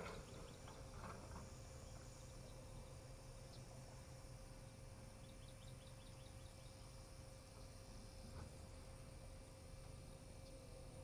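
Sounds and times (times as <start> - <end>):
faint insect chirps: 0.0 - 11.0
faint low hum: 0.0 - 11.0.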